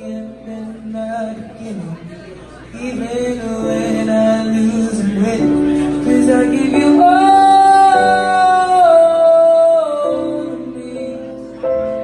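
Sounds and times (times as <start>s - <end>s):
electric keyboard: 0.0s - 12.0s
man singing a slow ballad: 0.0s - 12.0s.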